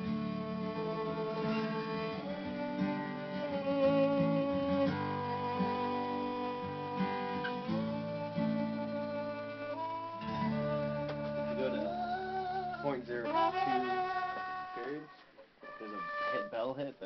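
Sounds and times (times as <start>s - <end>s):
acoustic guitar accompaniment: 0.0s - 16.7s
violin playing long bowed notes: 0.0s - 16.8s.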